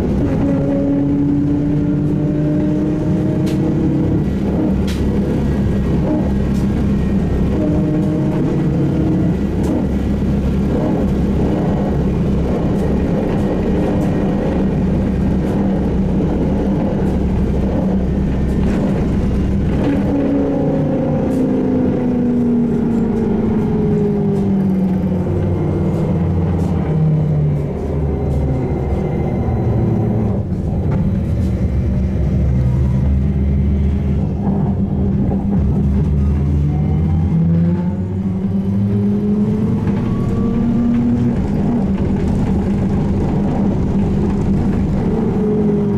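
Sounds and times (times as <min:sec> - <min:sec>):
road rumble: 0:00.0 - 0:45.9.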